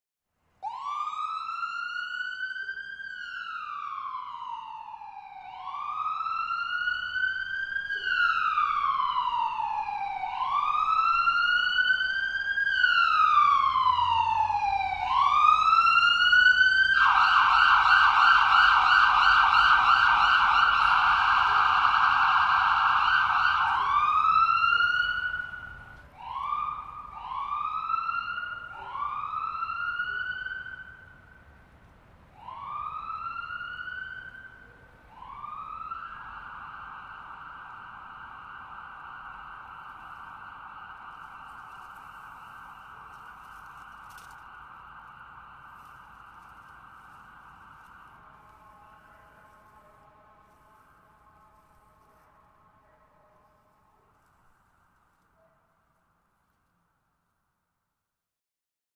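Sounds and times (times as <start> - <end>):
distant ambulance siren: 0.5 - 56.6.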